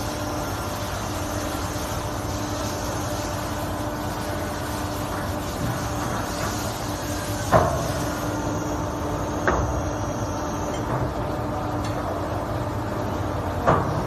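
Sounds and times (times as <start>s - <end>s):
machine humming: 0.0s - 13.7s.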